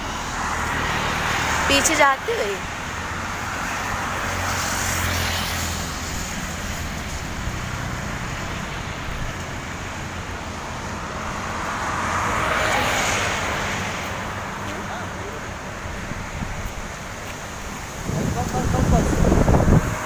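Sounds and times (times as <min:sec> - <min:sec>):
vehicles passing on wet road: 0:00.0 - 0:20.0.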